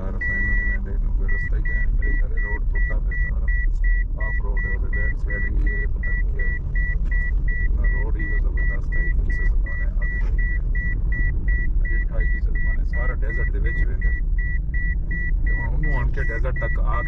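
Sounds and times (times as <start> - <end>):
car engine rumble: 0.0 - 17.0
car warning beeper: 0.0 - 17.0
road noise: 0.0 - 17.0.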